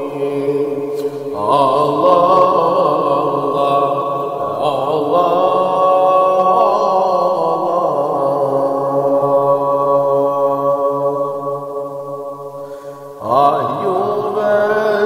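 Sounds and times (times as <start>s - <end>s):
person chanting a hymn: 0.0s - 15.0s.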